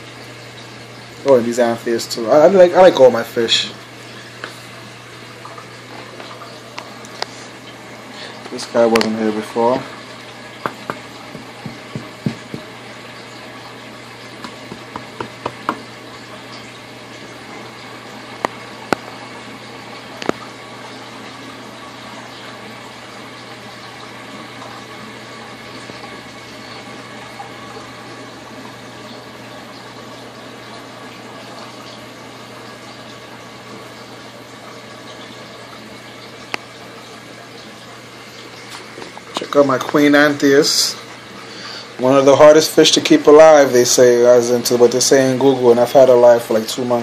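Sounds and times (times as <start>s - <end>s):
bubbling circulating water: 0.0s - 47.0s
low pump hum: 0.0s - 47.0s.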